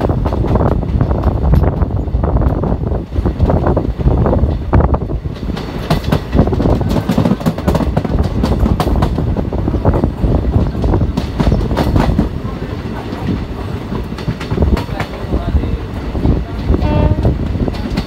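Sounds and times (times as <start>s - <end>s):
train rumble: 0.0s - 18.0s
train wheels clattering over rail joints: 0.0s - 18.0s.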